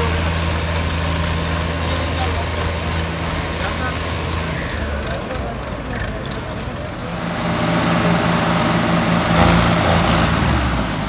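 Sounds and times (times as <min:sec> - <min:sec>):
tractor diesel engines revving: 0:00.0 - 0:11.0.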